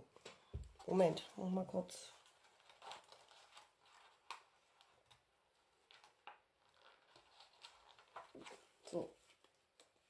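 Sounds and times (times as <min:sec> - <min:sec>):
paper and card rustling: 0:00.1 - 0:10.0.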